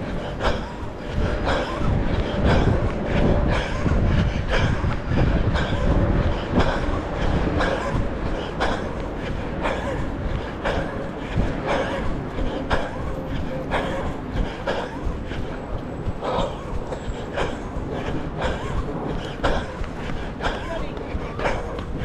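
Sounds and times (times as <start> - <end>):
jogging footsteps thudding: 0.0 - 22.0
wind buffeting microphone: 0.0 - 22.0.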